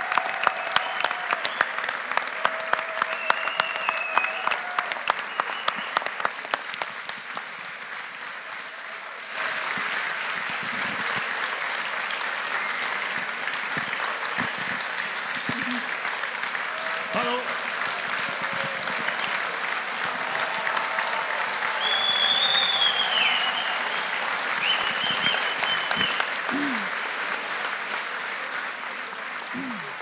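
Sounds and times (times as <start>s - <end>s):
audience clapping in rhythm: 0.0s - 30.0s
dense steady applause: 0.0s - 30.0s.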